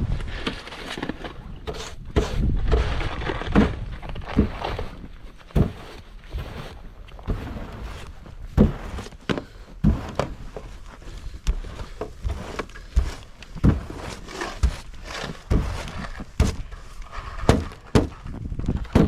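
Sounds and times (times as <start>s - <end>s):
snow scraping: 0.1s - 17.9s
dull thuds: 2.1s - 19.0s.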